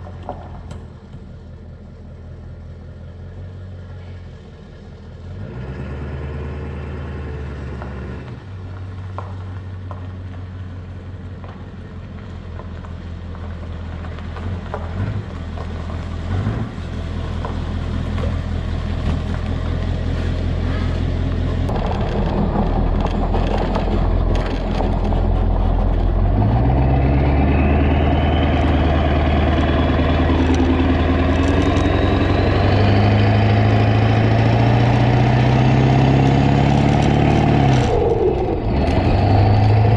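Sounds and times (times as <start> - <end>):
diesel truck engine accelerating: 0.0 - 39.9.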